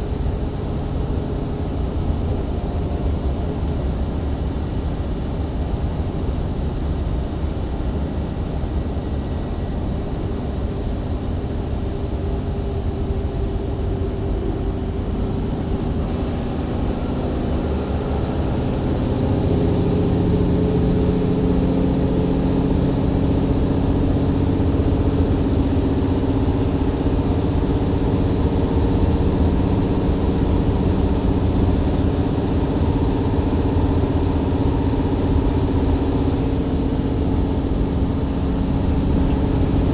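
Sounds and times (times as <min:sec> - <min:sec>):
bus engine low rumble: 0:00.0 - 0:39.9.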